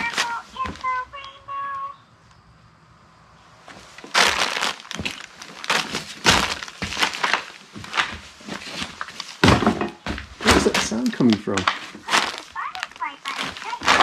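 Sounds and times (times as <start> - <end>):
footsteps crunching over debris: 0.0 - 1.3, 3.7 - 14.0.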